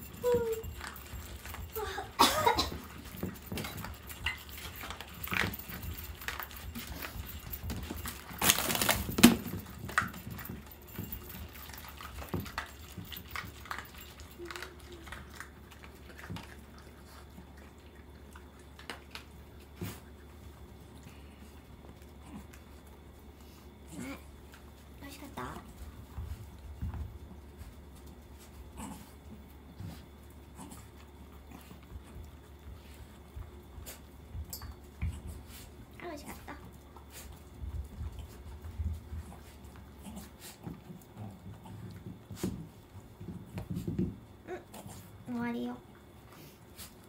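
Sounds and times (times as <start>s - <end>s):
dogs eating from bowls: 0.0s - 47.0s.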